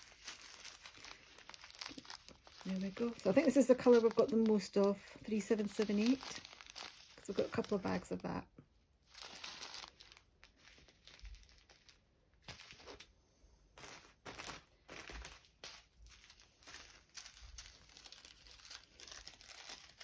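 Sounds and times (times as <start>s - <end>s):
plastic bags crinkling: 0.0s - 13.1s, 13.8s - 20.0s.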